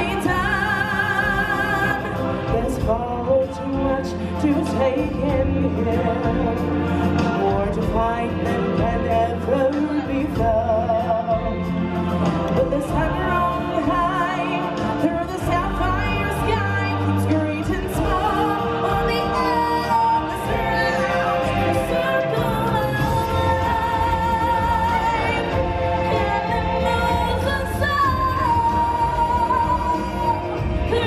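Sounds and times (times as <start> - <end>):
backing music with low bass: 0.0 - 31.0.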